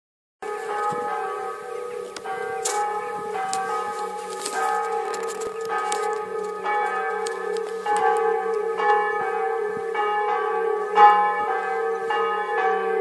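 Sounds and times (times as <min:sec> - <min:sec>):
church bells ringing: 0:00.4 - 0:13.0.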